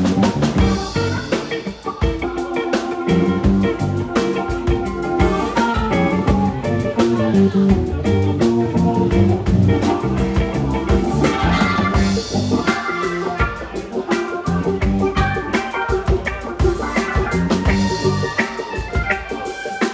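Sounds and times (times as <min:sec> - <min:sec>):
bass guitar: 0:00.0 - 0:19.9
drum kit groove: 0:00.0 - 0:19.9
electric guitar: 0:00.0 - 0:19.9.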